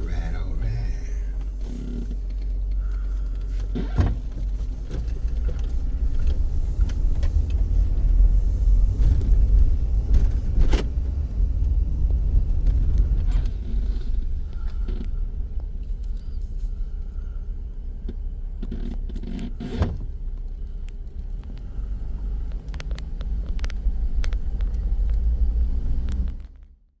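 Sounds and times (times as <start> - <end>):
vehicle low rumble: 0.0 - 27.0.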